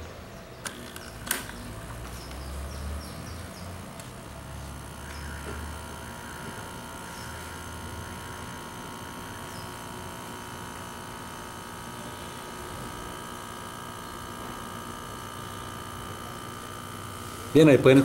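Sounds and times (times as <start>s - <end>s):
pump electric hum and buzz: 0.0s - 18.0s.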